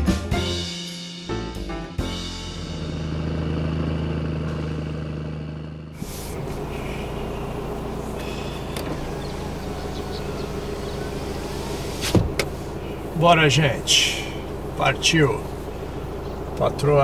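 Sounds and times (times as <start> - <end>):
car engine idling: 1.3 - 17.0.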